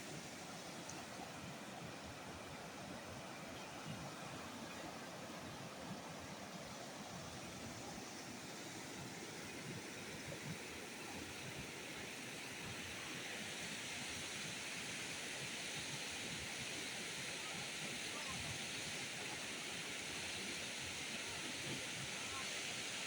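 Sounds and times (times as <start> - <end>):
rushing river water: 0.0 - 23.0.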